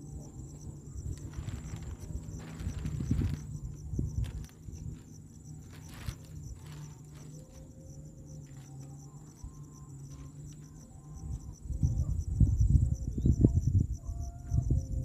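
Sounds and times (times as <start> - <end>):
loud uneven low rumble: 0.0 - 14.0
insects chirring: 0.0 - 15.0.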